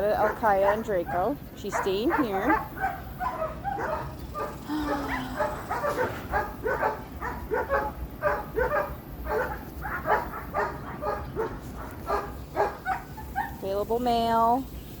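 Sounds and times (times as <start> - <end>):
puppies barking and yipping: 0.0 - 13.7.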